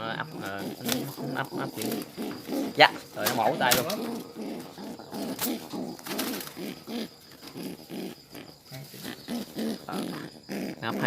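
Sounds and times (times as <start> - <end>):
pigeon cooing: 0.0 - 11.0.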